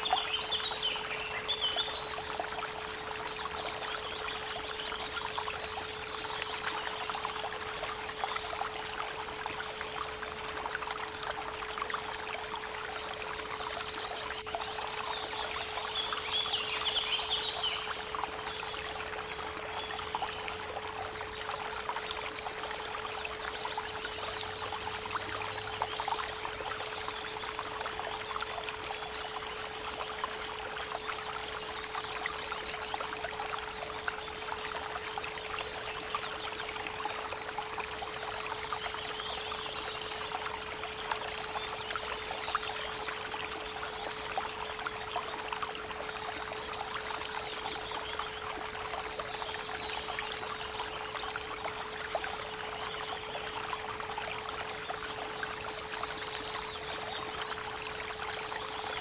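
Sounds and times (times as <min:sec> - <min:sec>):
creek babbling: 0:00.0 - 0:59.0.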